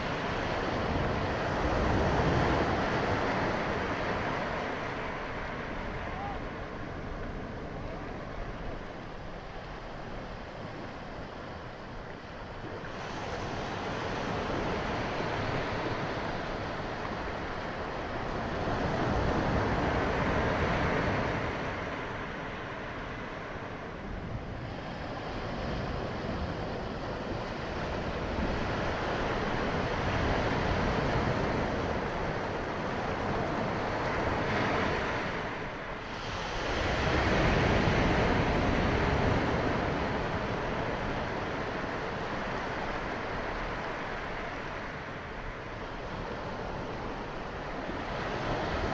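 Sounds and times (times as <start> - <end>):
small waves breaking on a beach: 0.0 - 48.9.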